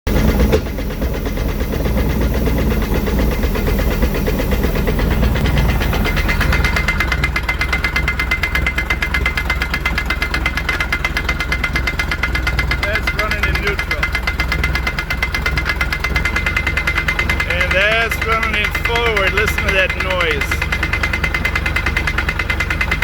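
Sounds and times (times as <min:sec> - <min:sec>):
boat engine running: 0:00.0 - 0:23.0
fast rattling clatter: 0:00.0 - 0:23.0.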